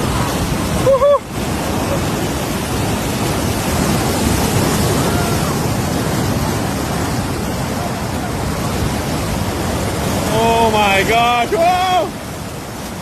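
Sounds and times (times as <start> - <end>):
surf: 0.0 - 13.0
water rushing through sand channel: 0.0 - 13.0.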